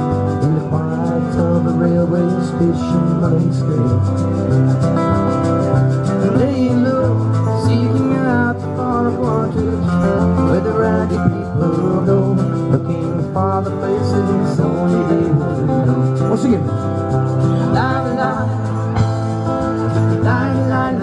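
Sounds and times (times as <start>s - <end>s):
man singing: 0.0s - 4.2s, 6.2s - 21.0s
electric guitar: 0.0s - 21.0s
strummed acoustic guitar: 0.0s - 21.0s
drum kit: 2.9s - 21.0s.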